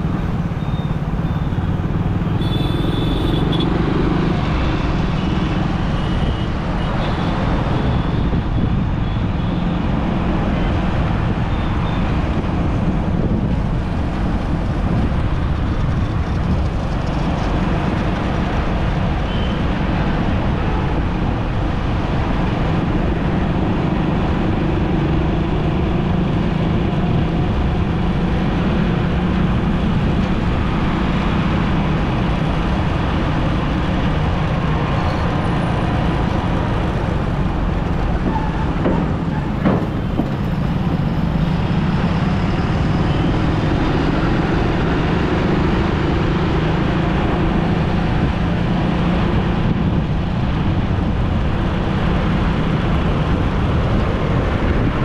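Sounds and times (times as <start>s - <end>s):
city road traffic: 0.0s - 55.0s.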